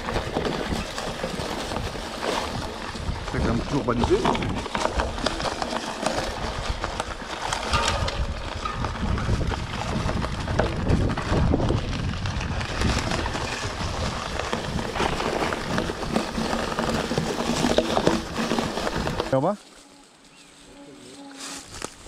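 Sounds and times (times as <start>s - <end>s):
bike knocking and rattling: 0.0s - 19.8s
tyres rolling over leaves and twigs: 0.0s - 22.0s.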